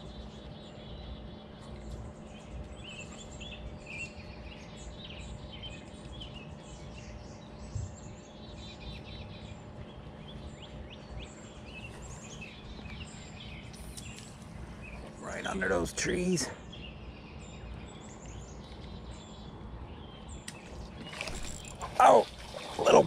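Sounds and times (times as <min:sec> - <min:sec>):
low background rumble: 0:00.0 - 0:22.9
songbirds chirping and trilling: 0:00.0 - 0:23.0.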